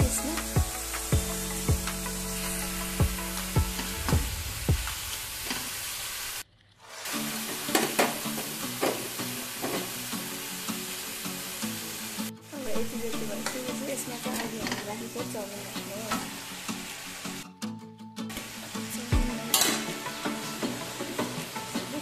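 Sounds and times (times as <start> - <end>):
vegetables sizzling in a pan: 0.0 - 17.4, 18.3 - 22.0.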